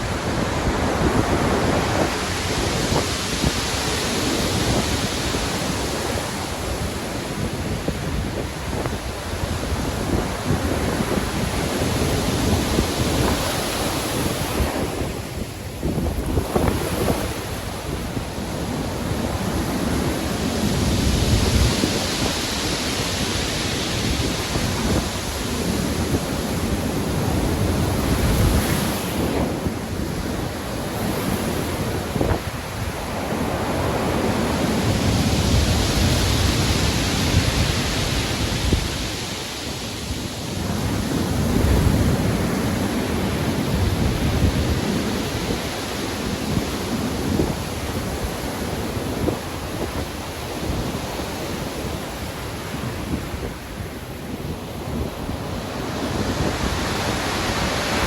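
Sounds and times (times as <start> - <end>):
heavy surf waves breaking: 0.0 - 58.0
wind rumble: 0.0 - 58.0.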